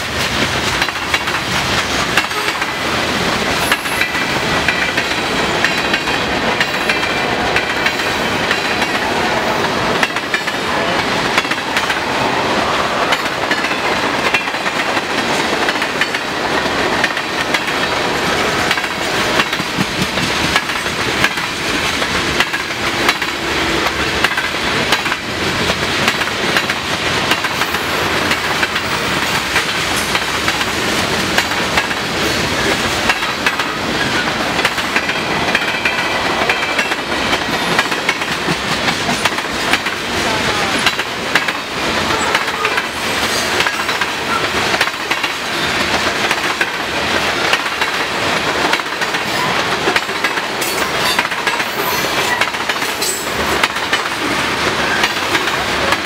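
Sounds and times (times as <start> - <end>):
clickety-clack over rail joints: 0.0 - 56.0.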